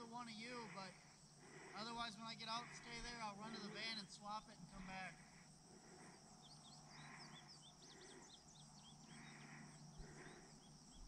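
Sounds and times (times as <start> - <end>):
bird chirping: 0.0 - 11.0
high insect calls: 0.0 - 11.0
soft repeating rasp: 0.0 - 11.0.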